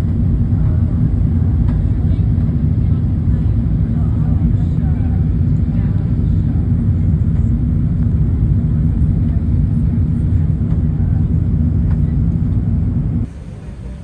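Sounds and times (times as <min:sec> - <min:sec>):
jet engine low rumble: 0:00.0 - 0:14.0.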